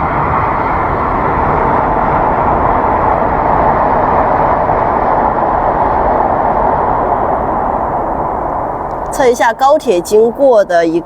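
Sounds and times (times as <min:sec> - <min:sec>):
high-speed train rushing past: 0:00.0 - 0:11.0.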